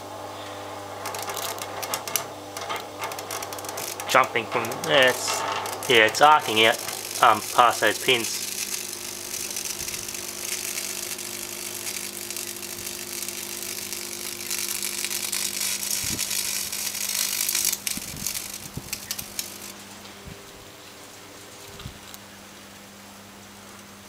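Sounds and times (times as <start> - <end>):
high-voltage arcing crackling hiss: 0.0 - 20.7
transformer mains hum: 0.0 - 24.0.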